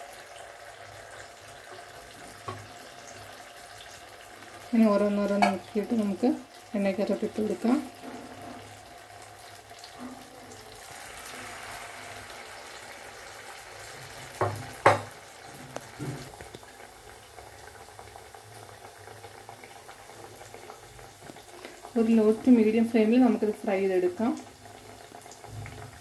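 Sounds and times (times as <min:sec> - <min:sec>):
battered slices sizzling in oil: 0:00.0 - 0:26.0.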